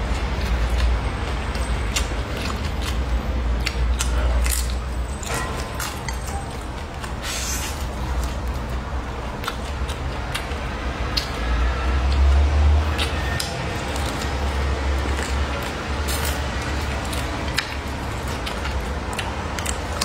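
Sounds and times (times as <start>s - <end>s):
person chewing with wet clicks: 0.0s - 20.0s.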